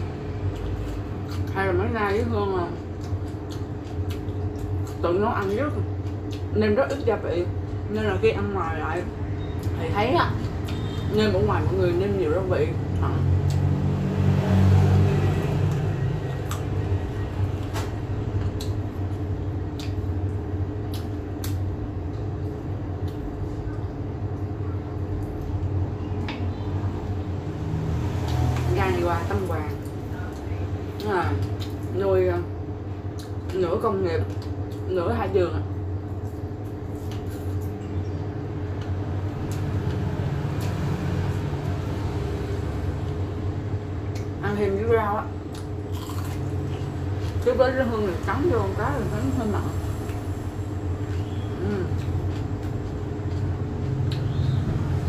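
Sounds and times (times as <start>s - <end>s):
low engine-like hum: 0.0s - 55.0s.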